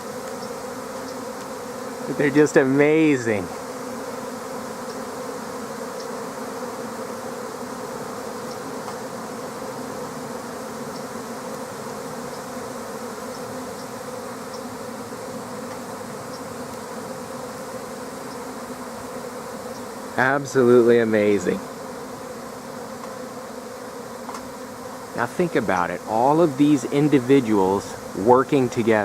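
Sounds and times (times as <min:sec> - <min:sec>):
swarm of bees buzzing: 0:00.0 - 0:29.0.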